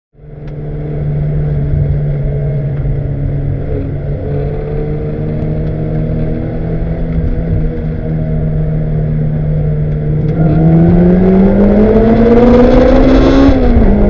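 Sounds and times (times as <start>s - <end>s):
race car engine running: 0.2s - 14.0s.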